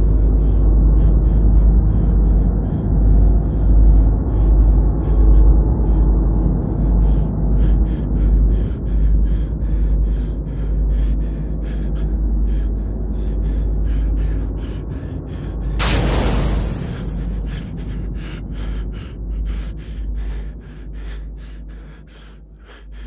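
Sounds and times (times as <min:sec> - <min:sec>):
low rumble: 0:00.0 - 0:23.0
person panting: 0:00.0 - 0:23.0.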